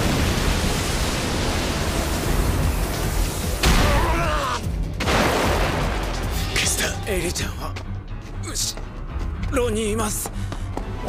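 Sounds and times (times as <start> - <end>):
background music: 1.3 - 11.0.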